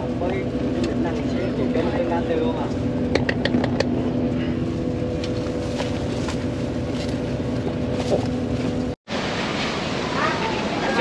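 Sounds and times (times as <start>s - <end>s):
bus engine hum and rumble: 0.0s - 11.0s.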